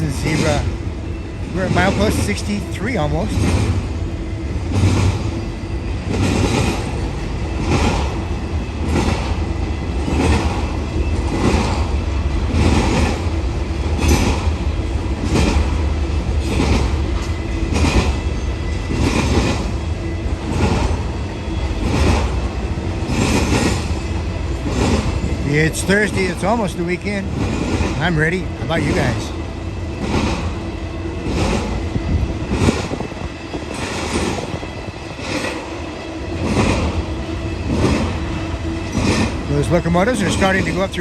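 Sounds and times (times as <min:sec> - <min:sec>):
train wheels clacking on rail joints: 0:00.0 - 0:04.0, 0:04.6 - 0:41.0
freight train rumble: 0:00.0 - 0:41.0.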